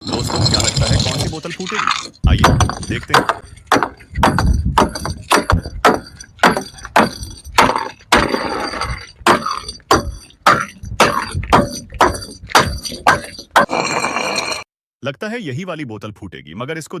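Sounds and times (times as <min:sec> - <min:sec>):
glass bottles knocked and ringing: 0:00.1 - 0:14.6.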